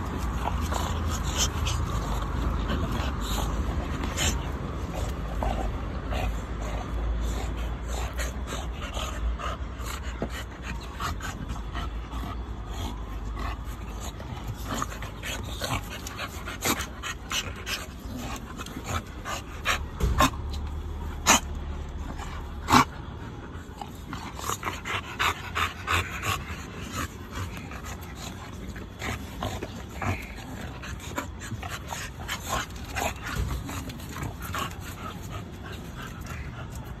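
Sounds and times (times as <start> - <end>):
dogs breathing and vocalizing: 0.0 - 37.0.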